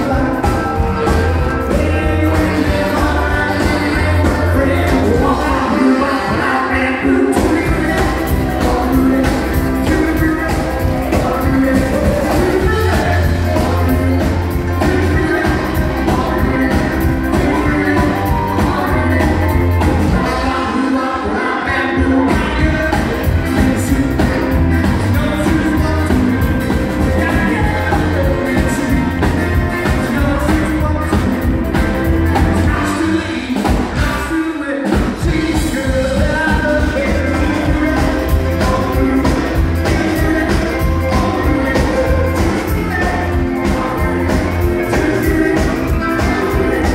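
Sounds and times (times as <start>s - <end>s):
bass guitar: 0.0s - 46.9s
drums: 0.0s - 46.9s
electric guitars: 0.0s - 46.9s
man singing lead: 0.0s - 46.9s.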